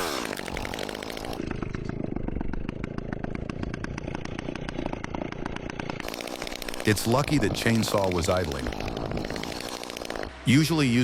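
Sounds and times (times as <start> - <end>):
chainsaw engine idling: 0.0 - 11.0.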